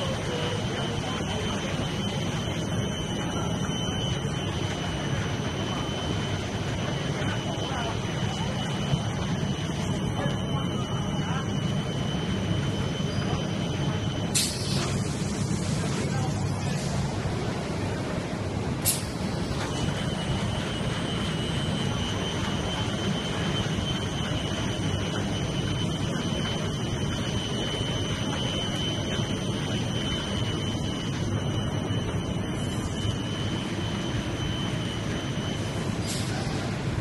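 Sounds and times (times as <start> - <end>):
thin high-pitched whine: 0.0 - 17.1, 18.8 - 36.8
production line machinery running: 0.0 - 37.0.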